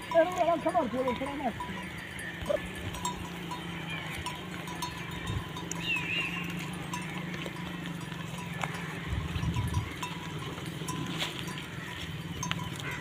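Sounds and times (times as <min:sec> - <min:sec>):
livestock bells clinking: 0:00.0 - 0:13.0.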